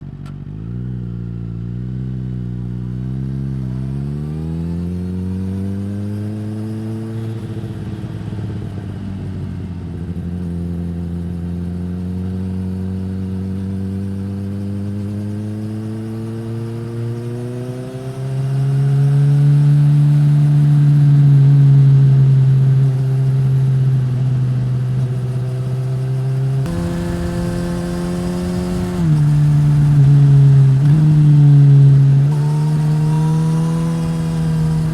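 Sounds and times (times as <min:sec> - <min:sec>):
motorcycle engine revving through gears: 0:00.0 - 0:09.0, 0:09.8 - 0:34.9.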